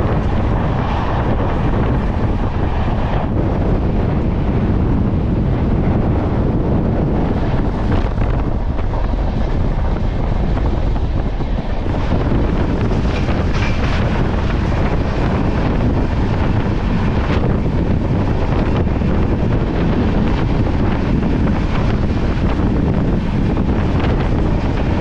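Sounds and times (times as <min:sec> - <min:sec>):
train rumbling along tracks: 0:00.0 - 0:25.0
wind buffeting microphone: 0:00.0 - 0:25.0.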